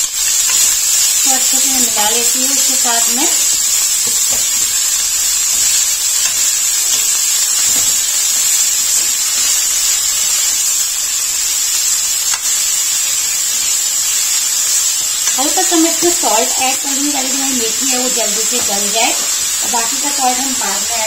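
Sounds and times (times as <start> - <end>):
leaves sizzling in hot oil: 0.0 - 21.0.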